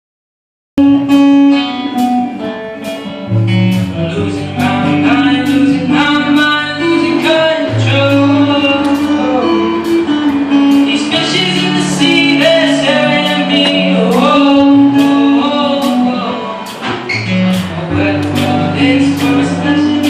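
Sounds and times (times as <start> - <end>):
music with guitar and beat: 0.8 - 20.0
deep bass line: 3.2 - 20.0.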